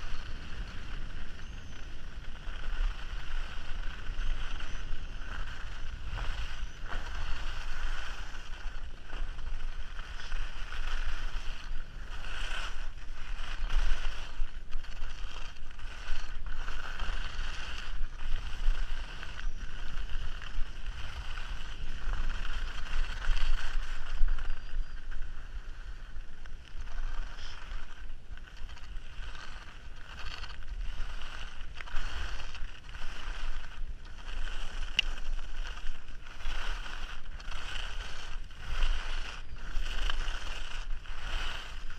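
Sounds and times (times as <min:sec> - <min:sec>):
skis scraping on snow: 0:00.0 - 0:41.9.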